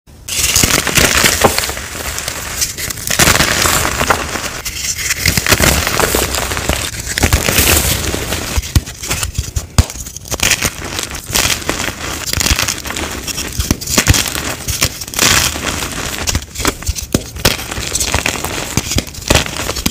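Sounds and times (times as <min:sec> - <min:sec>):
chalk blocks crunching in hands: 0:00.3 - 0:19.9.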